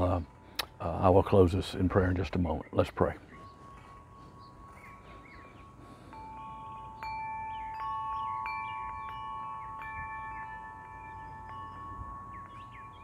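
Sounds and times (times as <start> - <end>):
wind chime ringing: 0.0 - 13.0
faint bird chirps: 2.5 - 13.0.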